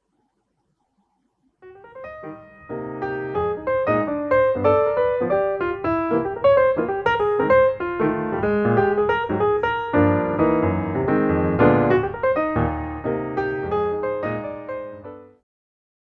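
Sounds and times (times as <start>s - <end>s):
piano music: 1.6s - 15.4s.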